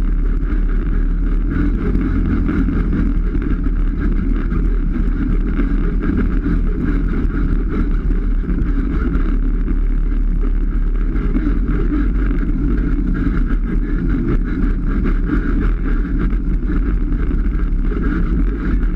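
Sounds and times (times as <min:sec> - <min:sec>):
single-cylinder engine running: 0:00.0 - 0:18.9.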